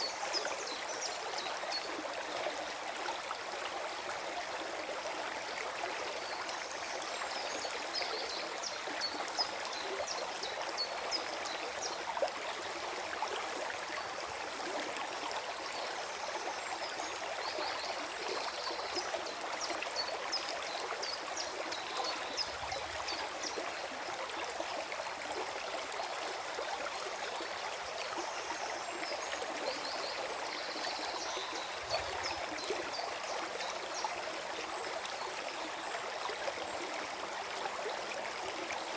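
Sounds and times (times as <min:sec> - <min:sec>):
stream flowing and gurgling: 0:00.0 - 0:38.9.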